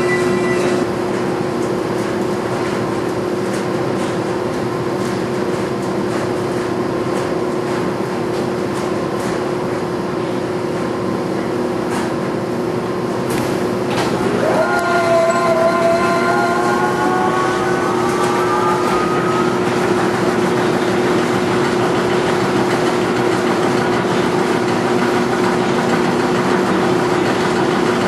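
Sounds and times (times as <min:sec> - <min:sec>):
tumble dryers running: 0:00.0 - 0:28.0
washing machine running: 0:00.0 - 0:28.0.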